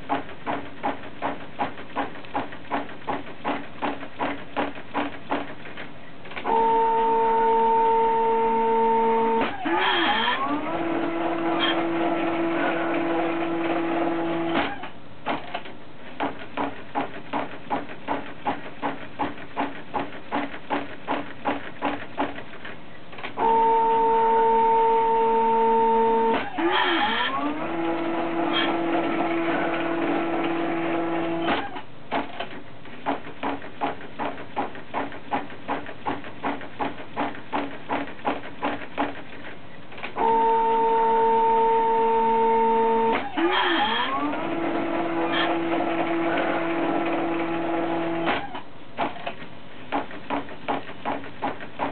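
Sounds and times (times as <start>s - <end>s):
regular mechanical pulses: 0.0s - 51.9s.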